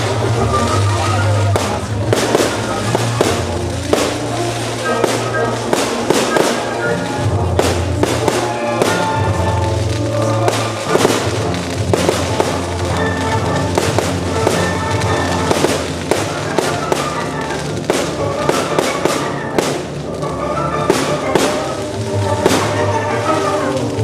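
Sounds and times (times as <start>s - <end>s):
fireworks cracks and bangs: 0.0s - 24.0s
loud music with held notes: 0.0s - 24.0s.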